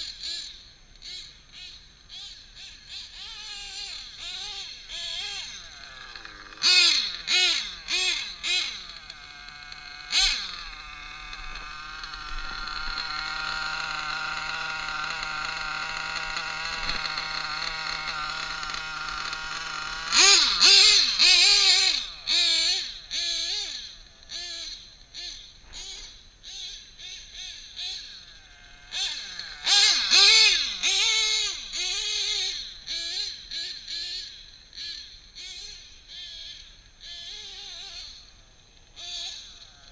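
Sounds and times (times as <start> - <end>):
model truck engine revving: 0.0 - 39.9.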